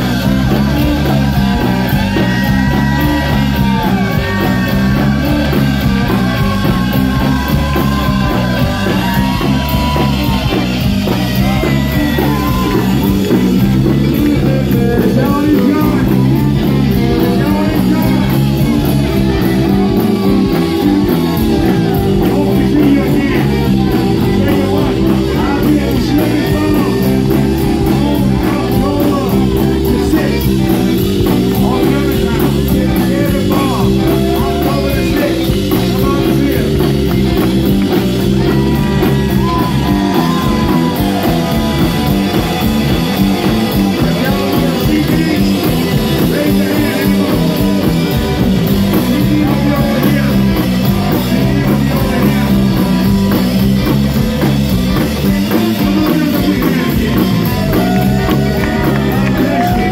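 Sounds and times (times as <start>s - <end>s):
drum kit: 0.0s - 59.9s
electric bass line: 0.0s - 59.9s
electric guitar: 0.0s - 59.9s
keyboard: 0.0s - 59.9s.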